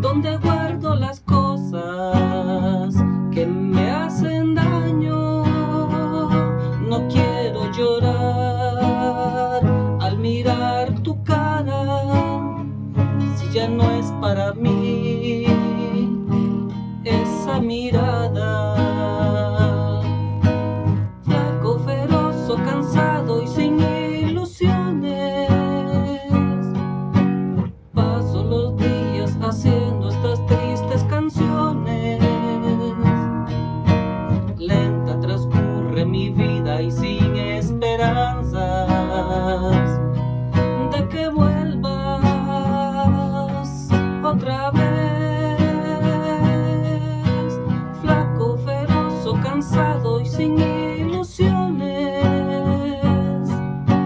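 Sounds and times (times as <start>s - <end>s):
acoustic guitar ballad: 0.0s - 54.0s.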